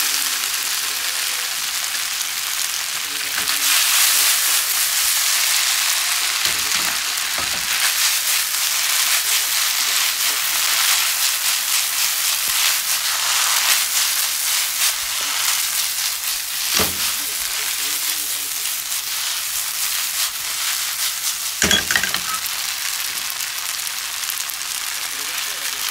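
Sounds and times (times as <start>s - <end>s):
noodles sizzling in frying pan: 0.0s - 25.9s.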